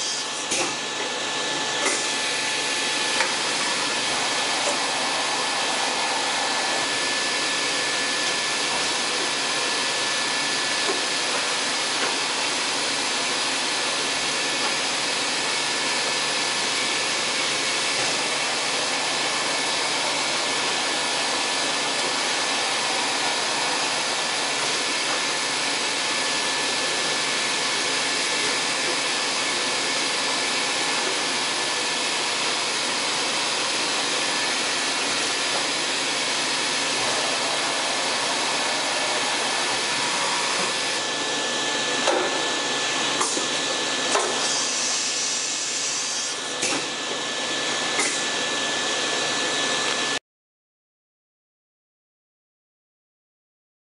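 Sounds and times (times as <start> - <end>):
machining center whirring with high whine: 0.0 - 50.2.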